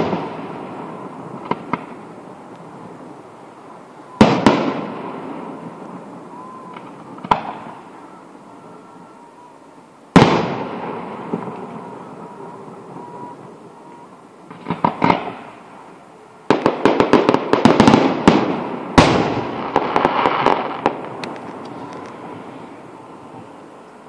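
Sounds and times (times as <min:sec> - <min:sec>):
fireworks bangs: 0:00.0 - 0:23.6
fireworks crackling: 0:00.0 - 0:24.0.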